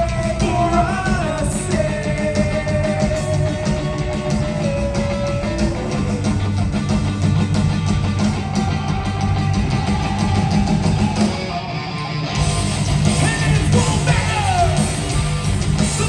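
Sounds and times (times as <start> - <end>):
bass guitar: 0.0 - 16.0
distorted electric guitars: 0.0 - 16.0
drums: 0.0 - 16.0.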